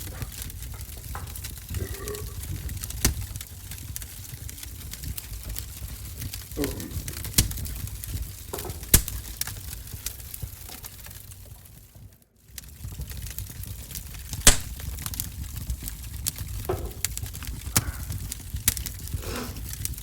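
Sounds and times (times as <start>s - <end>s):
sharp pops of fire: 0.0s - 20.0s
wood fire crackling: 0.0s - 20.0s.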